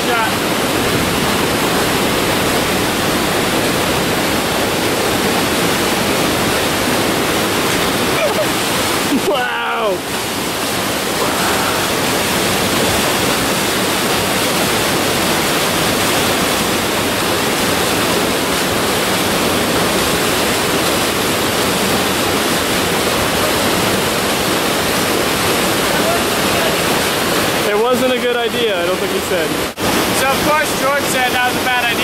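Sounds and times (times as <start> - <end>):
whitewater rushing into a pool: 0.0 - 32.0.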